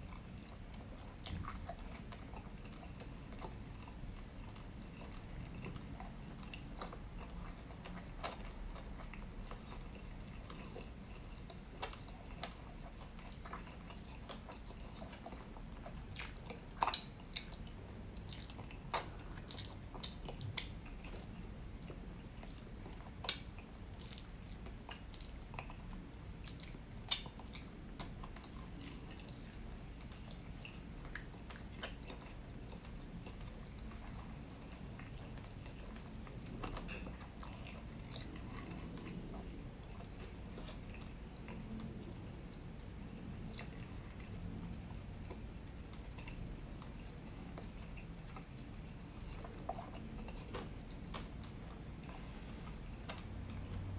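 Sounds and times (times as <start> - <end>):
person chewing: 0.0 - 53.9.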